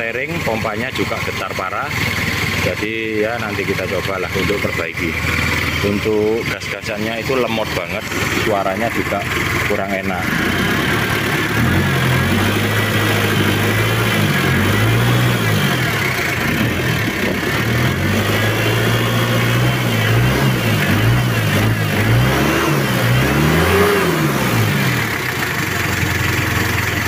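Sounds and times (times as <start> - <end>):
diesel engine idling and revving: 0.0 - 27.0.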